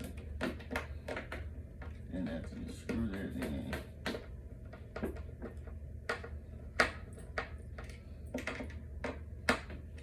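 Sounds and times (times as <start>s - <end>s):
furniture hardware clicks and knocks: 0.0s - 10.0s.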